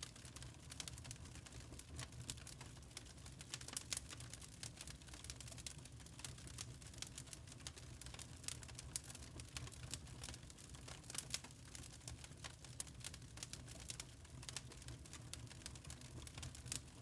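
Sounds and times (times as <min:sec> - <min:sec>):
burning charcoal crackling: 0:00.0 - 0:17.0.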